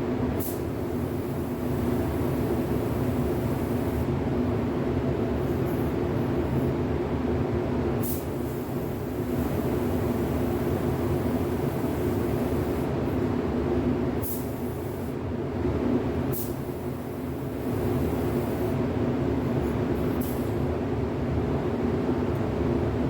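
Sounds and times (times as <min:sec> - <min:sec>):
ventilation fans droning: 0:00.0 - 0:23.0.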